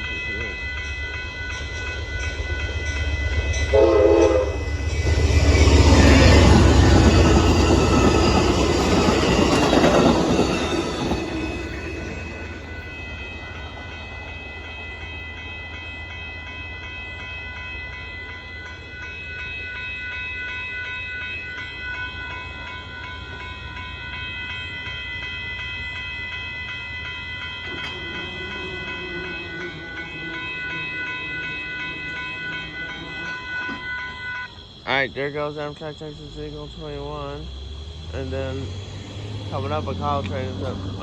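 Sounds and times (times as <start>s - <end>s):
train wheels clacking on rails: 0.0s - 19.6s, 20.6s - 41.0s
crossing warning bell ringing: 0.0s - 41.0s.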